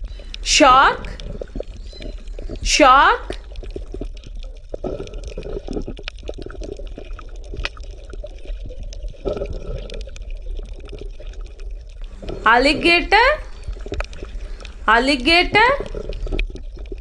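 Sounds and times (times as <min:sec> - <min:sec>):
bubbling sloshing water: 0:00.0 - 0:17.0.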